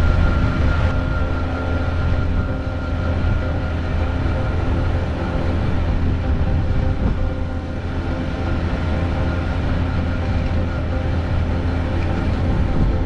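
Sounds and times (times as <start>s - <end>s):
engine and road hum: 0.0s - 13.0s
steady tones: 0.0s - 13.0s.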